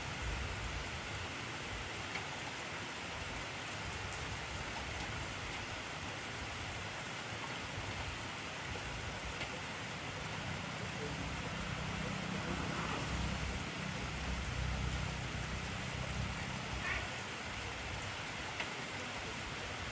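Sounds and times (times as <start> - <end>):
heavy rain hissing: 0.1 - 19.9.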